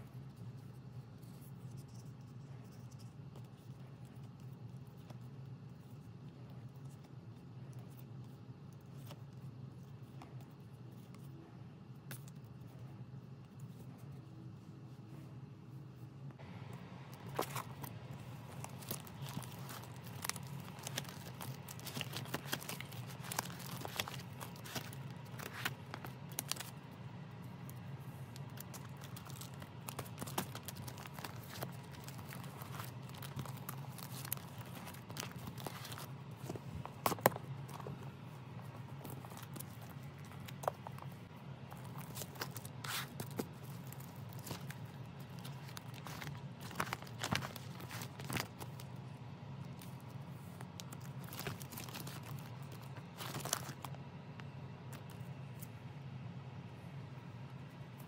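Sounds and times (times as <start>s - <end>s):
plastic sleeves rustling: 0.0s - 55.7s
steady low hum: 0.0s - 58.0s.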